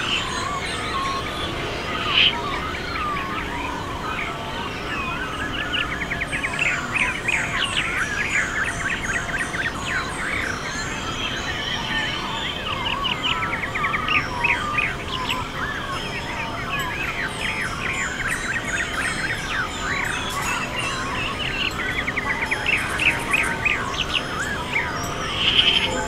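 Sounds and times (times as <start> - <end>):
small birds singing: 0.0 - 26.0.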